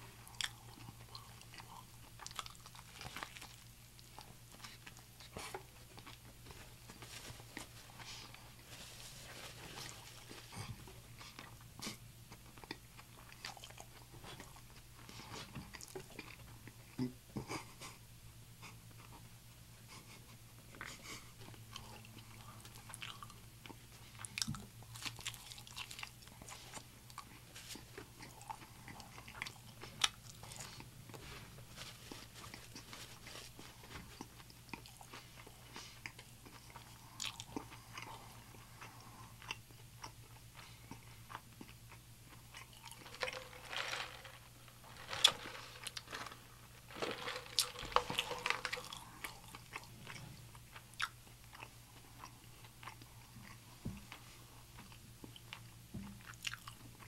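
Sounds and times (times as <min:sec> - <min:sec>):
chewing crispy food: 0:00.0 - 0:17.1, 0:20.7 - 0:57.0
faint low hum: 0:00.0 - 0:57.0.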